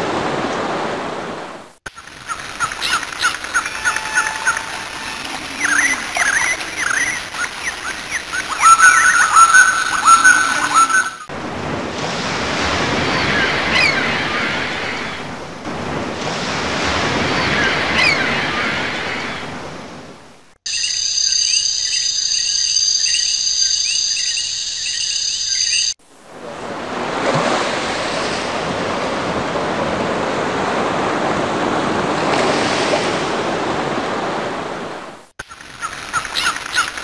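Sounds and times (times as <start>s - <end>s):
surf washing: 0.0s - 20.5s, 26.0s - 37.0s.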